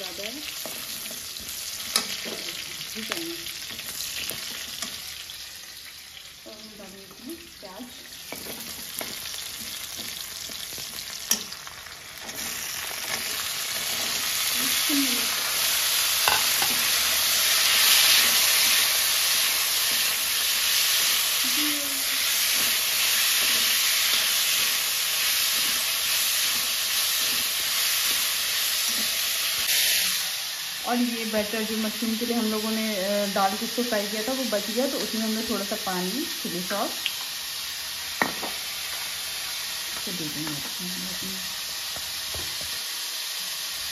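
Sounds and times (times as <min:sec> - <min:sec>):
onion sizzling in hot oil: 0:00.0 - 0:43.9.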